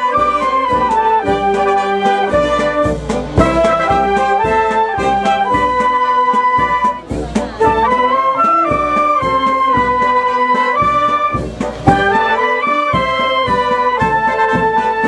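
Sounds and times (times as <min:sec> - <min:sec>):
brass band playing slow march: 0:00.0 - 0:15.0.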